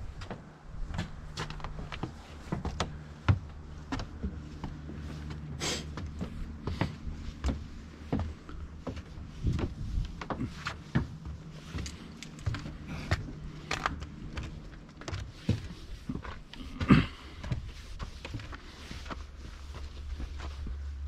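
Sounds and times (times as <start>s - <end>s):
footsteps on snow: 0.0s - 21.0s.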